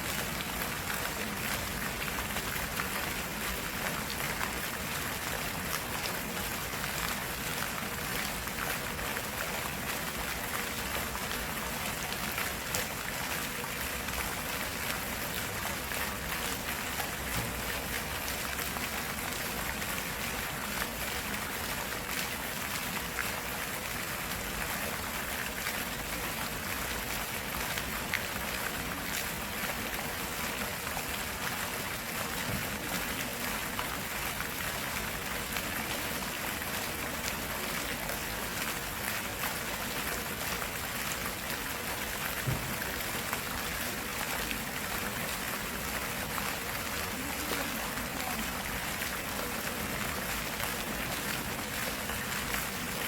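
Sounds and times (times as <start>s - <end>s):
stream flowing with splashes: 0.0s - 53.0s.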